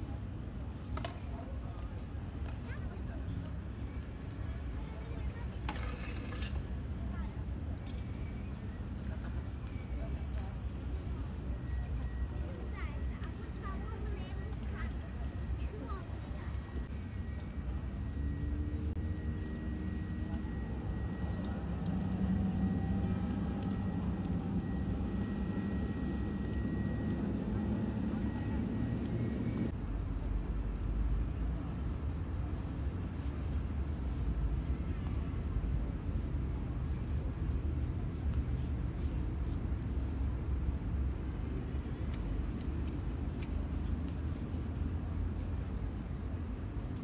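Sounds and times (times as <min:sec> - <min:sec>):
boat diesel engines droning: 0:03.2 - 0:47.0
faint high whine: 0:03.6 - 0:47.0.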